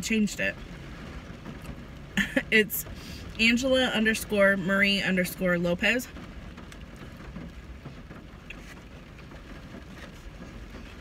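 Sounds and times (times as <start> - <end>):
low rumble inside car: 0.0 - 11.0.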